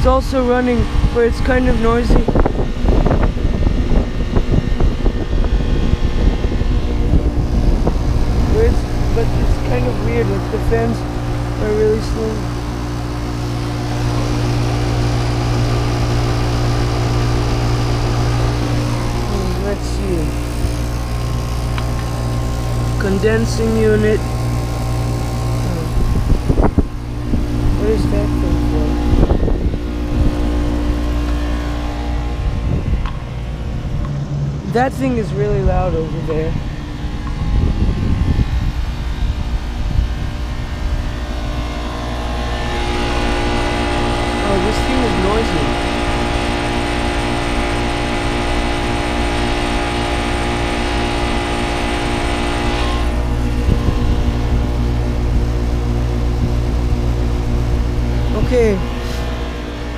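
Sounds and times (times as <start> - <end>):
air conditioning unit humming: 0.0 - 59.9.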